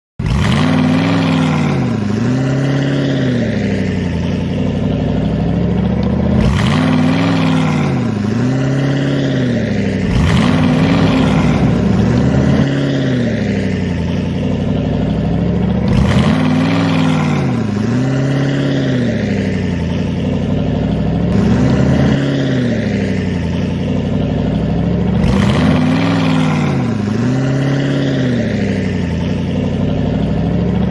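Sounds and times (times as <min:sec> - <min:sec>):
excavator engine under load: 0:00.2 - 0:30.9.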